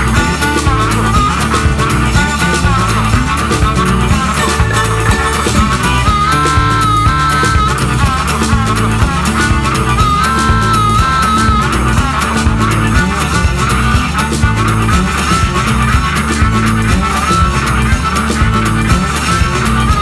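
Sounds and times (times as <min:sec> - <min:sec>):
bass: 0:00.0 - 0:20.0
electric guitar: 0:00.0 - 0:20.0
steady drum beat: 0:00.0 - 0:20.0.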